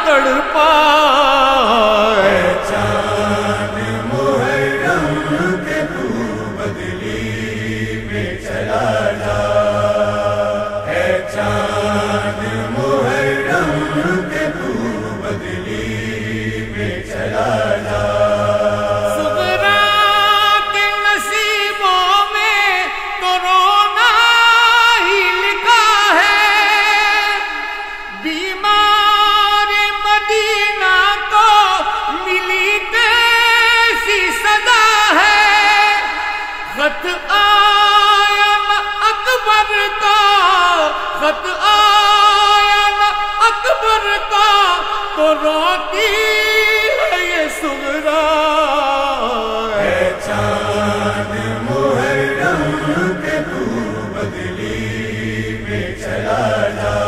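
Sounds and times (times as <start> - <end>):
male chorus chanting: 0.0 - 57.0.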